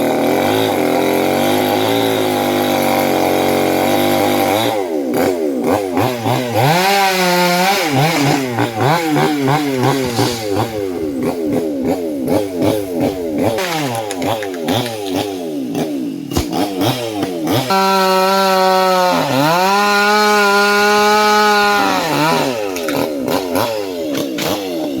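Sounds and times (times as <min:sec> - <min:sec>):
chainsaw engine revving: 0:00.0 - 0:25.0.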